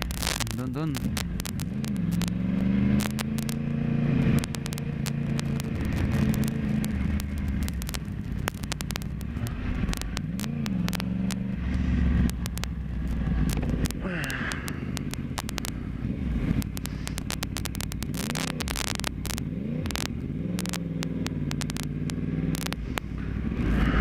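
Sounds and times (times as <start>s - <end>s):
exhaust crackles: 0.0s - 24.0s
motorcycle engine revving: 0.0s - 24.0s.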